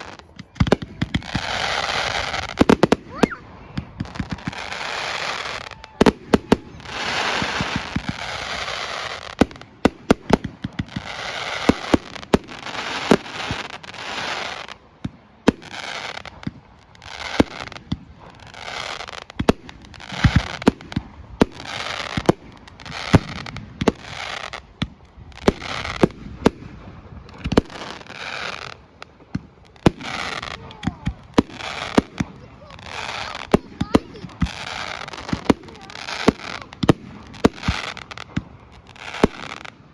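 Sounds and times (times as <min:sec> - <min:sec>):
fireworks bangs: 0:00.0 - 0:39.9
fireworks crackling and hissing: 0:00.0 - 0:39.9.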